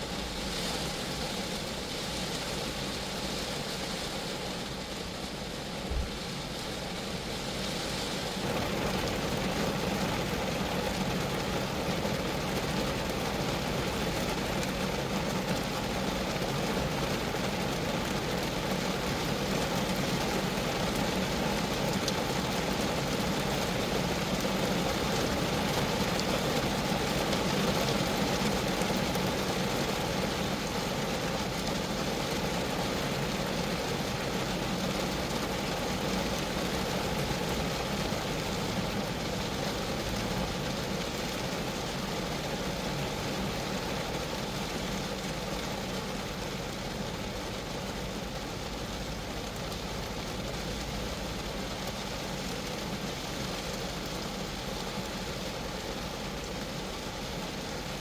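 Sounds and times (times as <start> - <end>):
rain pattering on a car: 0.0 - 58.0.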